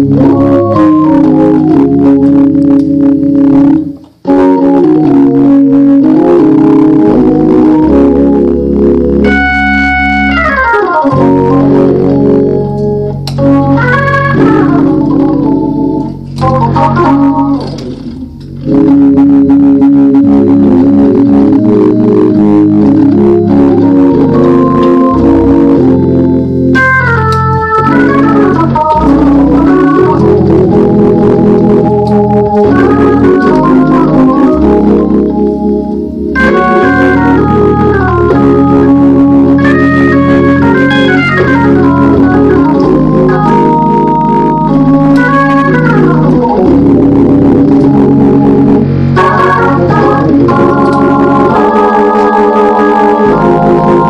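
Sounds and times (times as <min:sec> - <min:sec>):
organ playing chords: 0:00.0 - 0:54.0.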